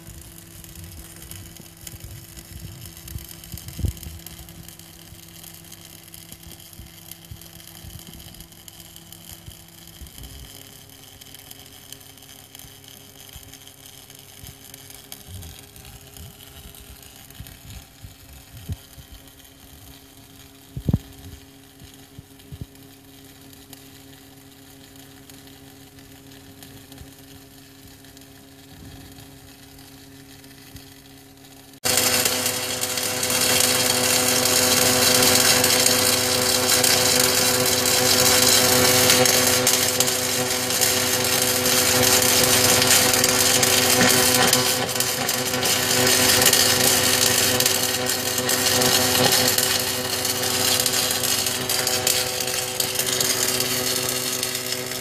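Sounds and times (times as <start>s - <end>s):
electric hum: 0.0s - 55.0s
welding arc hiss and crackle: 0.0s - 55.0s.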